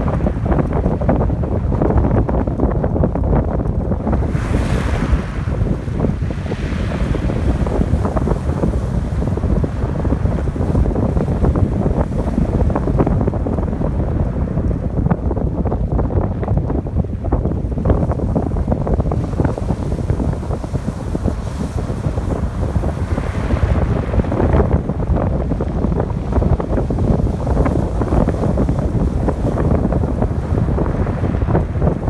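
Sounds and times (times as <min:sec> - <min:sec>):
ocean surf on beach: 0:00.0 - 0:32.0
wind buffeting microphone: 0:00.0 - 0:32.0.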